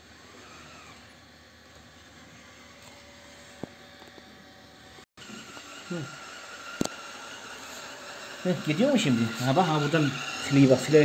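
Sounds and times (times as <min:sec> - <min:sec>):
robot vacuum motor hum: 0:00.0 - 0:11.0.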